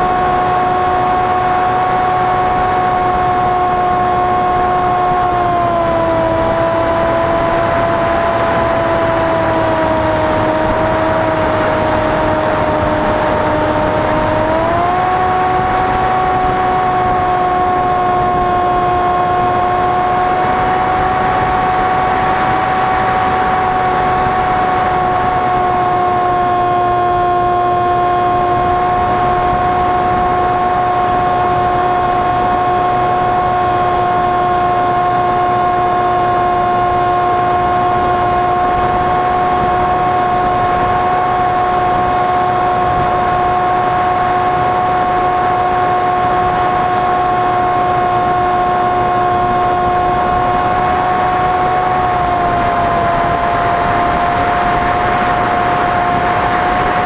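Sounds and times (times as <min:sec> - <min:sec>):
model airplane motor whine: 0:00.0 - 0:57.0.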